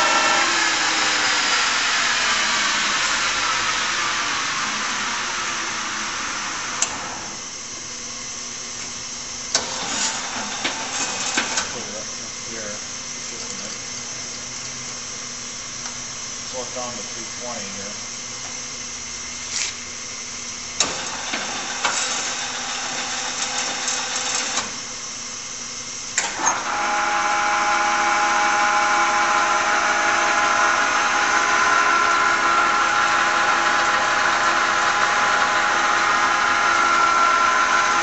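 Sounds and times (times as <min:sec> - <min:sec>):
lathe motor running: 0:00.0 - 0:19.4, 0:20.0 - 0:38.0.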